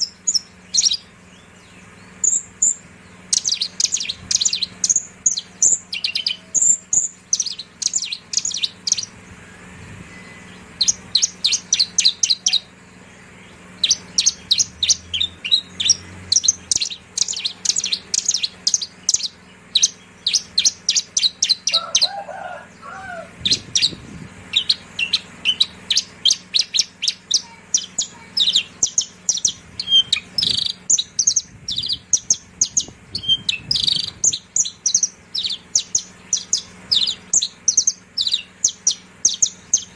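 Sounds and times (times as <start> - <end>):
bird singing high chirping notes: 0.0 - 39.9.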